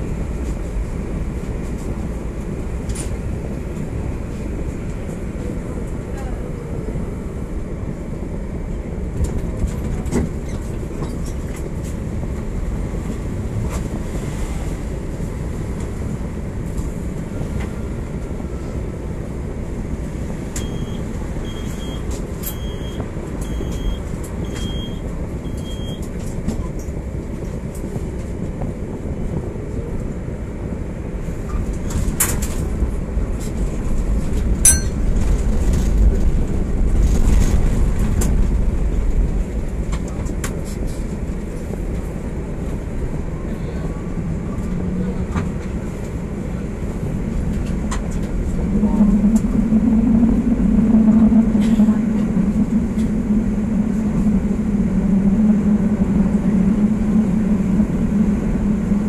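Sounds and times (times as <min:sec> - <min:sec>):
tram low rumble: 0:00.0 - 0:59.0.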